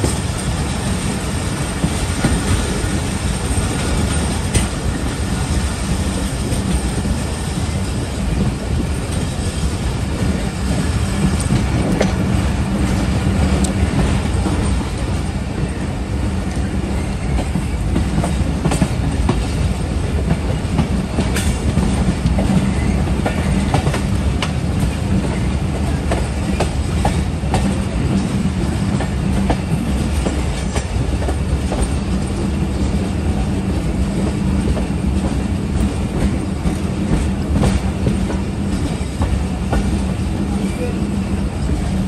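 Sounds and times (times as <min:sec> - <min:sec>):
train coach rumbling: 0:00.0 - 0:42.0.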